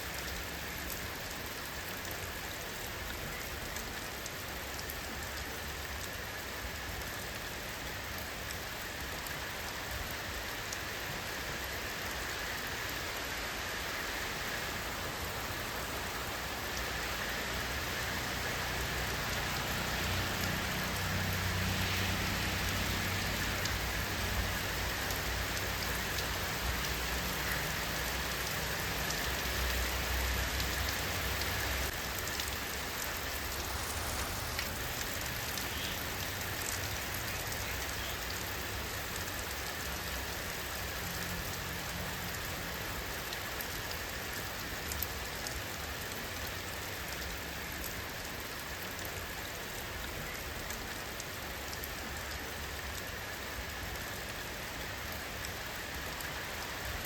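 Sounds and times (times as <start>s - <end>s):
sharp raindrops: 0.0s - 57.0s
steady rain hissing: 0.0s - 57.0s.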